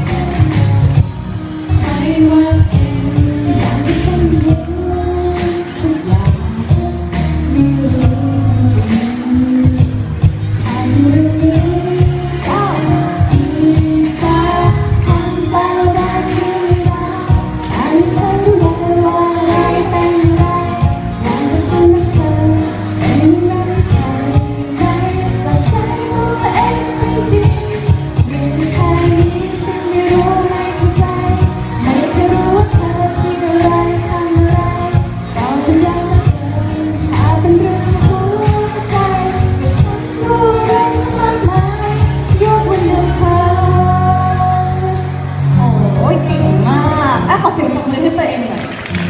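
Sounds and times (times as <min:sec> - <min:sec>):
woman singing into microphone: 0:00.0 - 0:48.8
pop backing music: 0:00.0 - 0:49.0.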